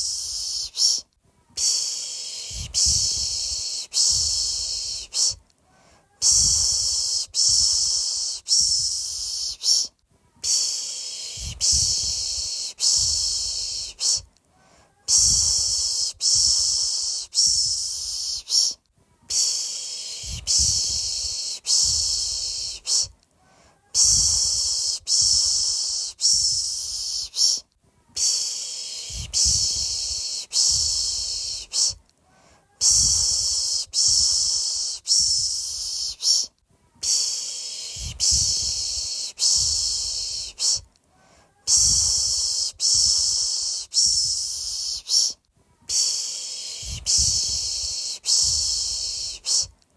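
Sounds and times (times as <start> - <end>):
person shushing a baby: 0.0 - 49.8.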